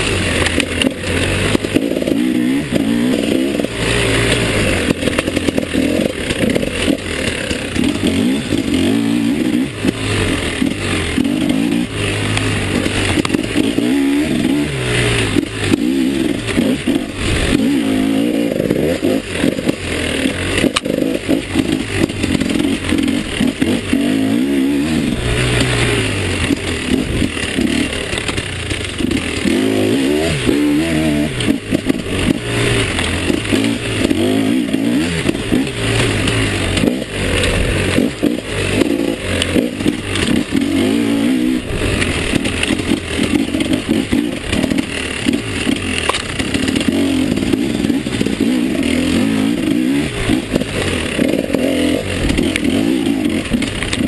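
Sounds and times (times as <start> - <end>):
dirt bike engine revving: 0.0 - 54.0
knocks and clatter from bike: 0.0 - 54.0.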